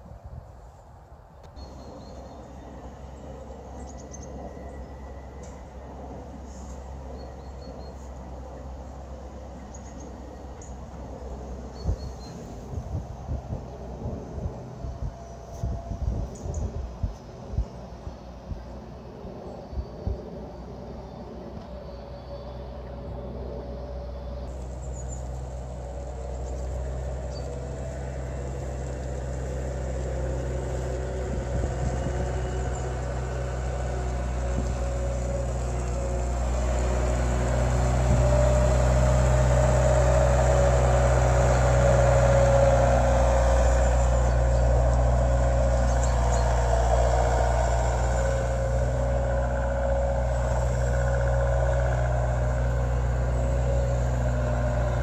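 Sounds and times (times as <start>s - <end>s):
faint steady whine: 0.0s - 55.0s
wheel loader diesel engine humming: 0.0s - 55.0s.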